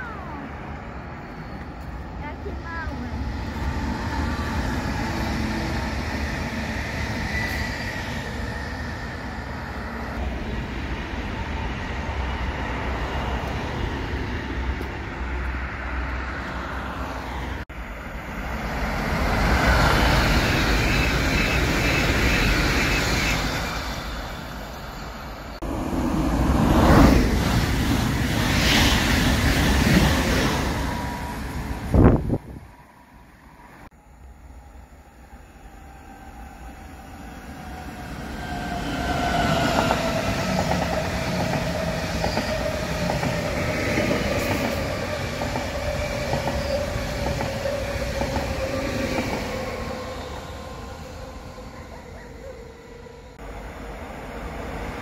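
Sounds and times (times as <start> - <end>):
distant electric train passing: 0.0 - 55.0
electric train rushing past: 0.0 - 55.0
road traffic: 0.0 - 55.0.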